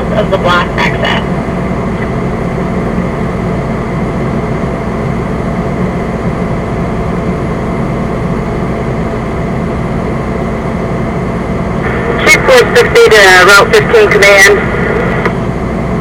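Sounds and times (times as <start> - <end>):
fire engine rumble: 0.0 - 16.0.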